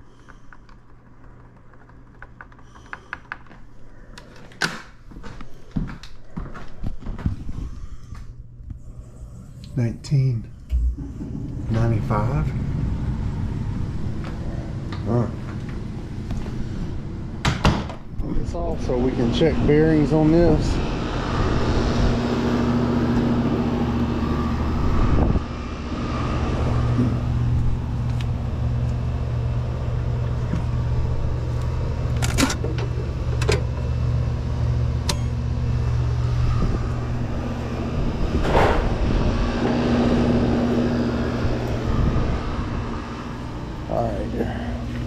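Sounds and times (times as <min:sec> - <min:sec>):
low mechanical hum: 0:00.0 - 0:45.0.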